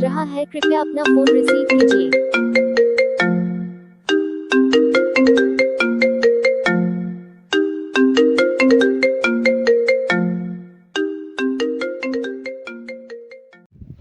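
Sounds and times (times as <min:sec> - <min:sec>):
phone ringtone melody: 0:00.0 - 0:13.7.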